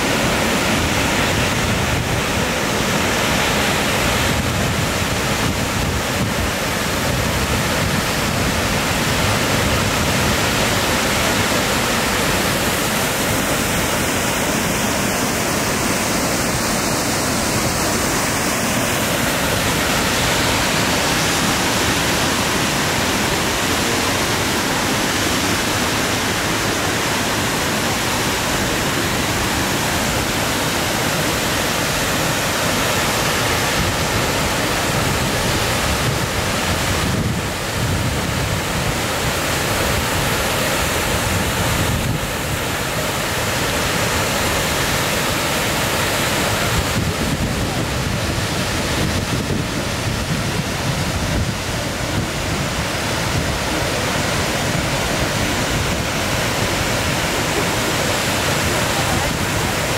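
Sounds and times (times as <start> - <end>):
river rapids: 0.0 - 59.9
waterfall rushing: 0.0 - 59.9.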